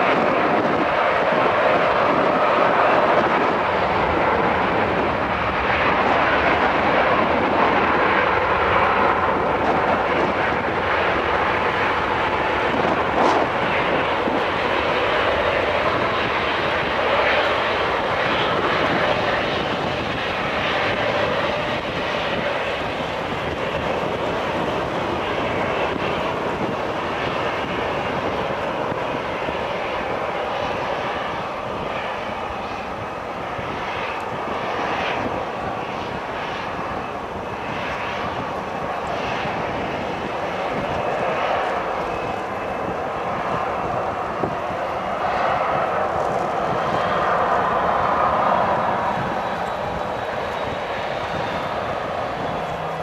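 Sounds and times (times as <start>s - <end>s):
jet engine whine and rush: 0.0s - 53.0s.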